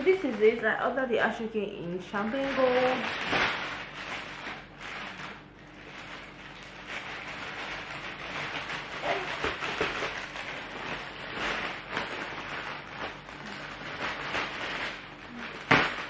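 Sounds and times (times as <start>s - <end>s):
plastic wrapping rustling: 0.0s - 16.0s.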